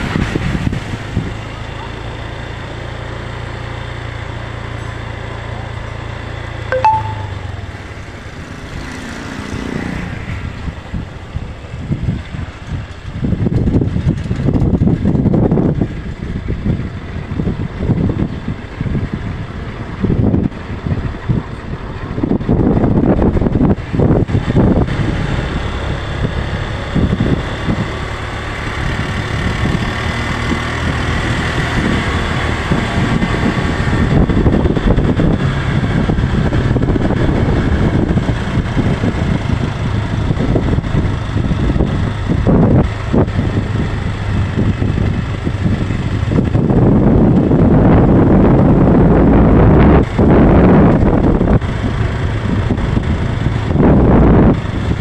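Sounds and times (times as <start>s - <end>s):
wind rushing over microphone: 9.4s - 55.0s.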